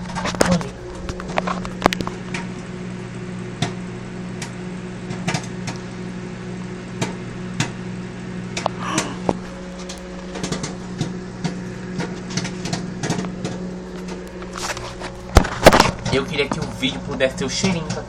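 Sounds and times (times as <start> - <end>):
microwave oven humming: 0.0 - 18.0
popcorn popping: 0.0 - 18.0.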